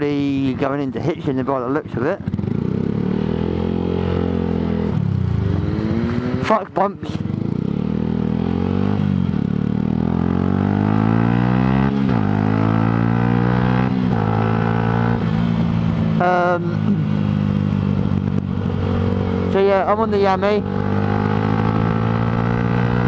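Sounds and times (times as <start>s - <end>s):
motorcycle engine accelerating: 0.1s - 23.0s.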